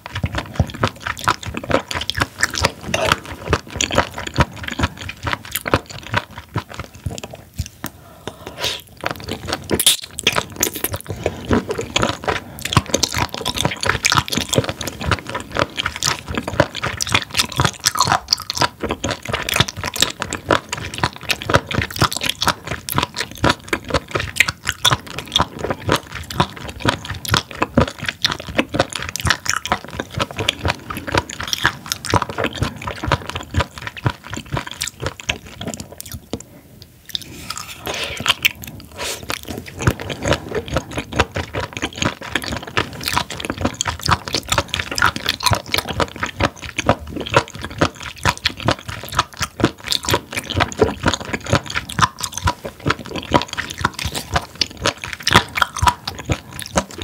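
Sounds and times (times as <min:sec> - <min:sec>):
crunchy wet chewing: 0:00.0 - 0:57.0.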